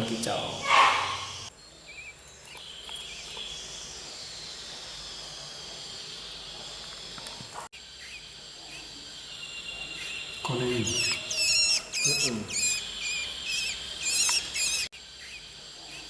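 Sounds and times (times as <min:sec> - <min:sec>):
insect-like high hiss: 0:00.0 - 0:16.0.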